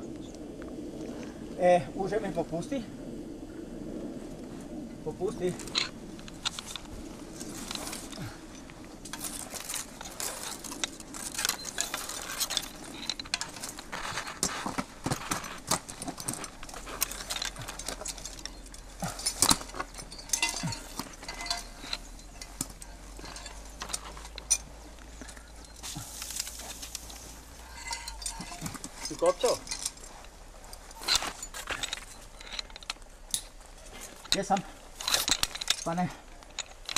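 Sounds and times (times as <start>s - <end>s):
branches rustling: 0.0s - 36.9s
climbing hardware clinking: 5.4s - 36.9s
clothing rustling: 5.5s - 36.9s.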